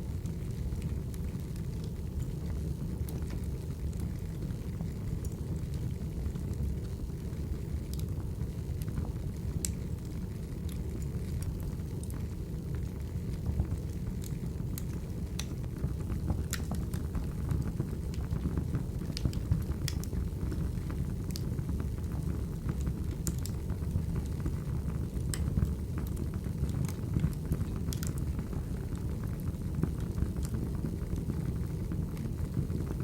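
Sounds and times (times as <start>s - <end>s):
burning logs crackling: 0.0s - 33.0s.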